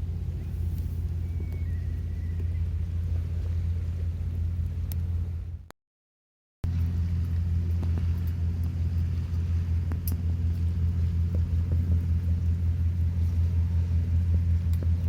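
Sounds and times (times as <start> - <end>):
low rumble: 0.0 - 5.7, 6.6 - 15.0.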